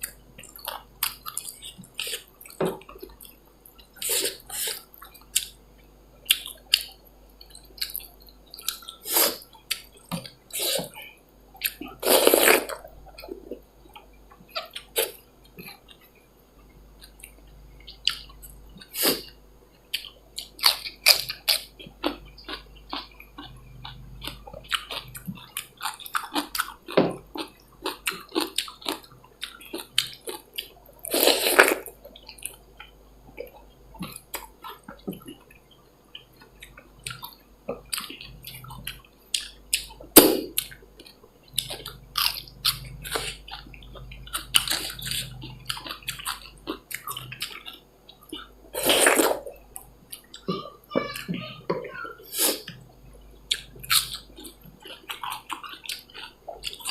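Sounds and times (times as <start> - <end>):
chewing and wet mouth sounds: 0.0 - 5.6, 6.2 - 56.9.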